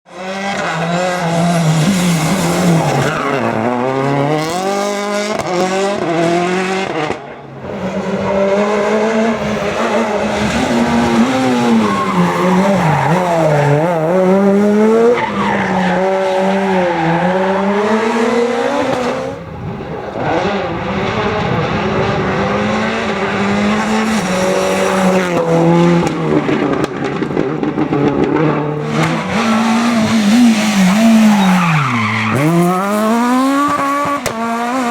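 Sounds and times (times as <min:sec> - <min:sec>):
car engines revving: 0:00.1 - 0:34.9
tyres skidding: 0:00.4 - 0:34.9.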